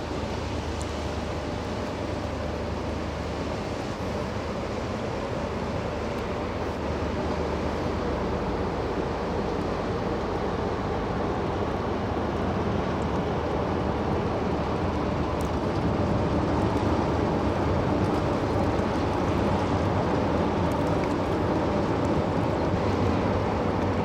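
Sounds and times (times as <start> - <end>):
ship engine low rumble: 0.0 - 24.0.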